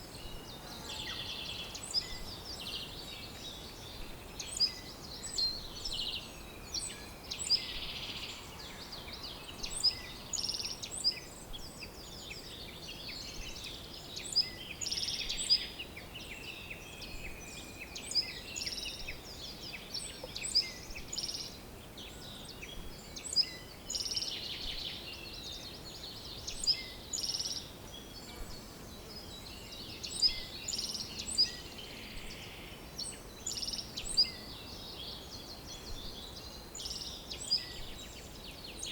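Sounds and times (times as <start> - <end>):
faint steady background hiss: 0.0 - 38.9
songbirds chirping and singing: 0.0 - 38.9.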